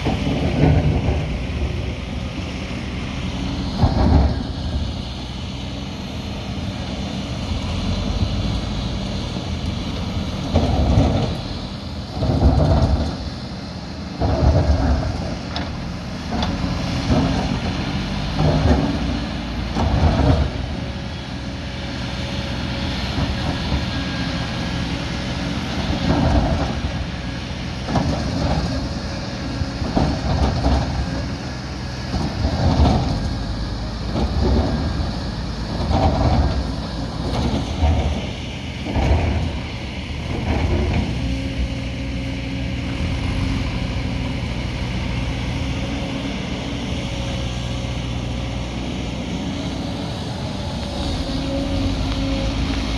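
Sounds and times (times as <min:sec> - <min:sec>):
diesel engines running: 0:00.0 - 0:52.9.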